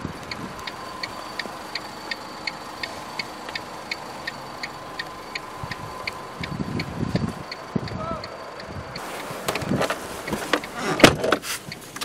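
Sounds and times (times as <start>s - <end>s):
rapid electronic dashboard ticking: 0.0s - 12.0s.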